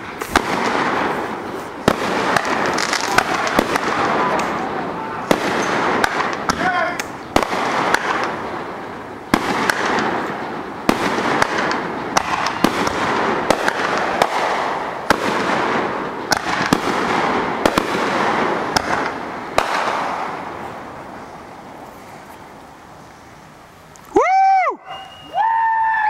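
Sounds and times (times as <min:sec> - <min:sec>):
fireworks bangs: 0:00.0 - 0:23.5
fireworks crackle: 0:00.0 - 0:26.0.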